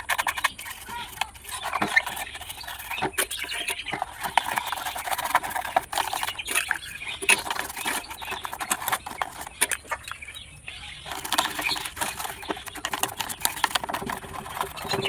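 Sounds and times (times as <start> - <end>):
tools scrubbing mud off plastic: 0.0 - 15.0.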